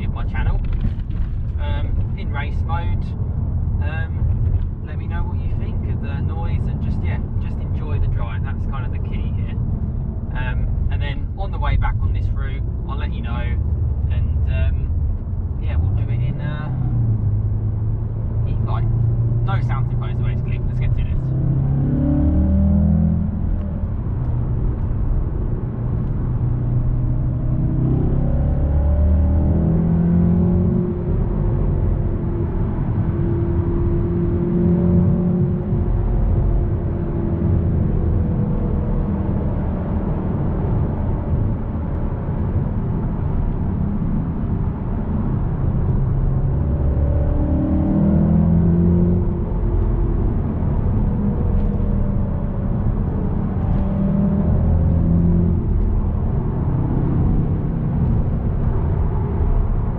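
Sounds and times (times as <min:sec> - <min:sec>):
car engine accelerating: 0:00.0 - 0:59.9
road rumble: 0:00.0 - 0:59.9.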